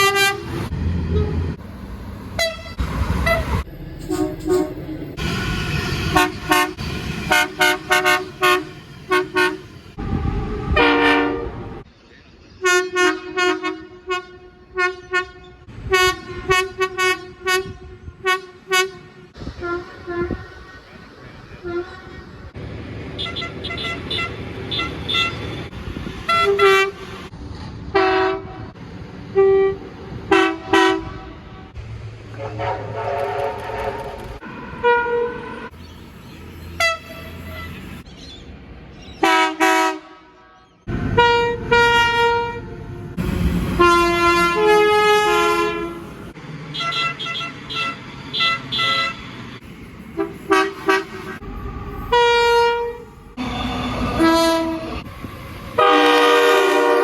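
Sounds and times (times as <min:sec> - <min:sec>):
locomotive air horn blasts: 0:00.0 - 0:01.5, 0:02.4 - 0:11.8, 0:12.6 - 0:20.6, 0:21.6 - 0:22.2, 0:23.2 - 0:27.3, 0:27.9 - 0:28.7, 0:29.3 - 0:35.7, 0:36.8 - 0:37.8, 0:39.2 - 0:40.6, 0:41.2 - 0:49.3, 0:50.2 - 0:55.1, 0:55.8 - 0:57.0
low train rumble: 0:00.0 - 0:57.0.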